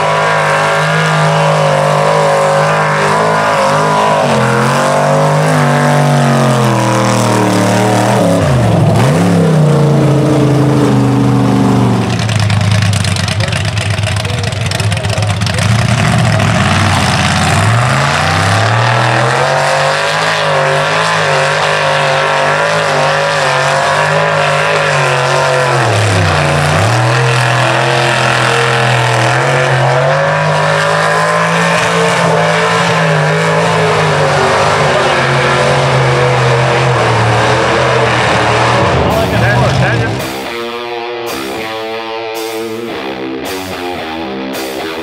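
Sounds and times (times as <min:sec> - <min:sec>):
truck engine revving hard: 0:00.0 - 0:45.0.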